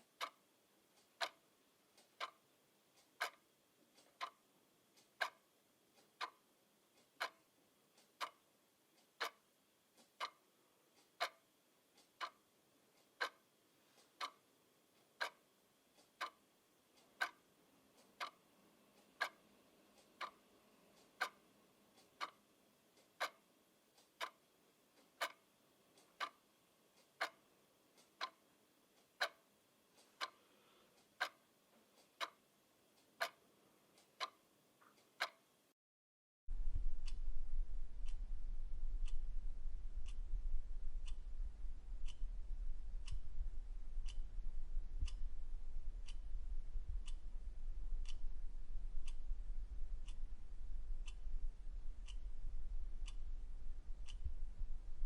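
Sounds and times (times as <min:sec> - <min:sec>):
clock ticking: 0:00.0 - 0:35.7, 0:36.5 - 0:55.0.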